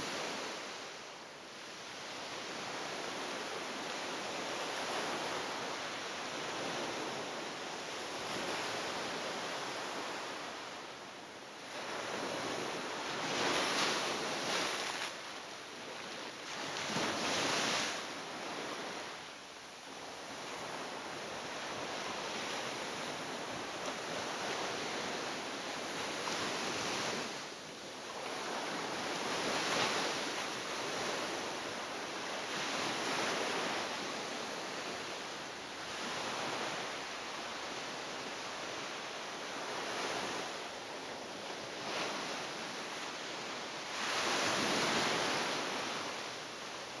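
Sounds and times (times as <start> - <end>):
sea waves breaking on shore: 0.0 - 47.0.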